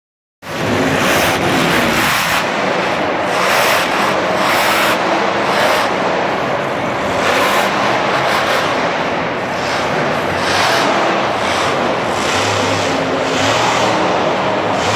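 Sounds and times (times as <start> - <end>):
monster truck engine revving: 0.4 - 14.9.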